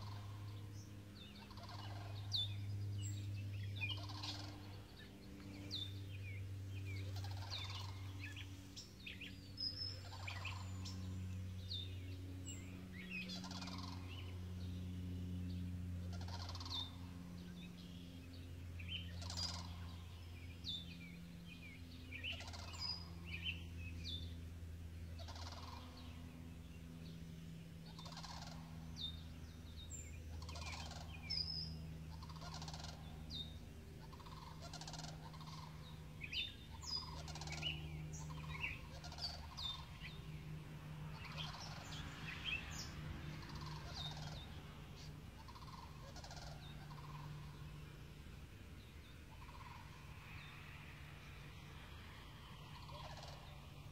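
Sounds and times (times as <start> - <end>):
songbird singing: 0.0 - 53.9
steady low hum: 0.0 - 53.9.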